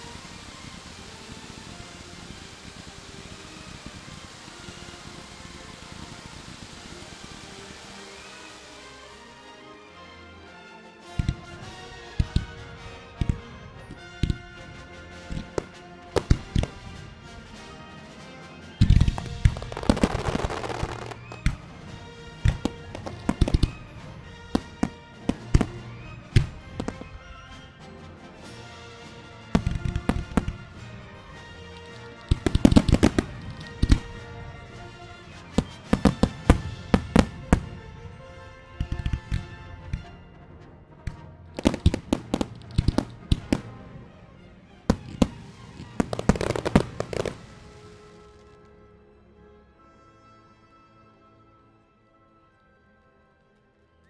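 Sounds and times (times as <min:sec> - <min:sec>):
fireworks bangs: 0:00.0 - 0:09.2, 0:11.2 - 0:40.2, 0:41.1 - 0:48.6
fireworks crackle: 0:00.0 - 0:09.6, 0:11.2 - 0:40.2, 0:41.1 - 0:48.8
music: 0:00.0 - 0:54.0.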